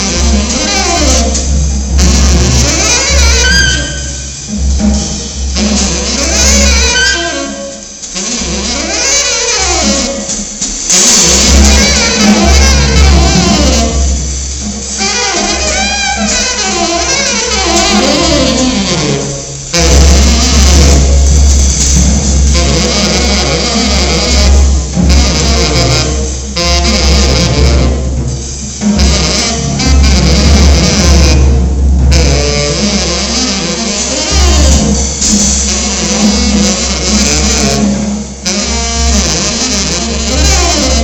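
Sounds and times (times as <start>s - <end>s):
drum hits: 0.0s - 41.0s
ride cymbal wash: 0.0s - 41.0s
tenor saxophone melody: 0.0s - 41.0s.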